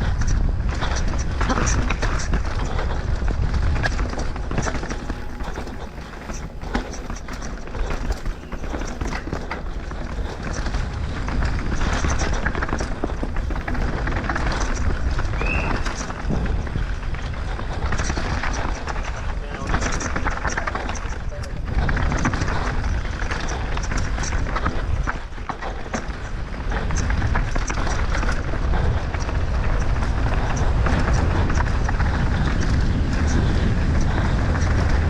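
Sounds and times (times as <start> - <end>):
bike clicks and rattles: 0.0 - 35.0
wind on microphone: 0.0 - 35.0
tyres on dirt: 0.1 - 35.0.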